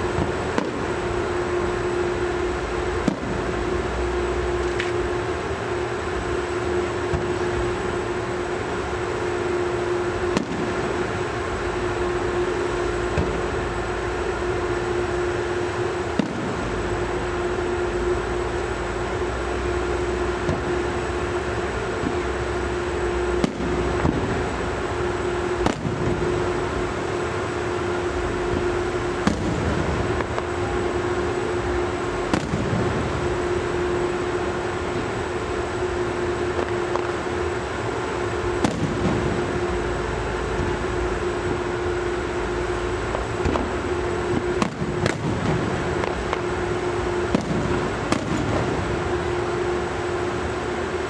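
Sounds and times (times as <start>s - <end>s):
fireworks banging: 0.0s - 22.3s, 23.0s - 50.6s
constant hum: 0.0s - 51.0s
low background rumble: 0.0s - 51.0s.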